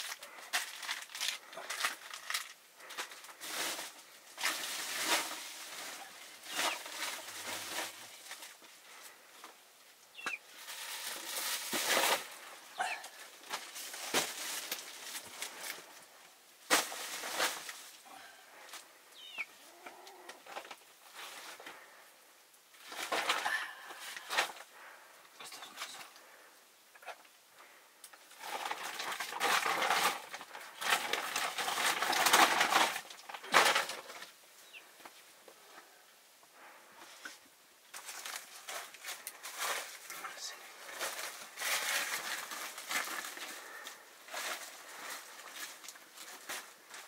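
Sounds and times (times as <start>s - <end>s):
scraping rustles: 0.0s - 9.6s, 10.2s - 22.0s, 22.7s - 26.5s, 27.1s - 35.9s, 36.7s - 47.0s.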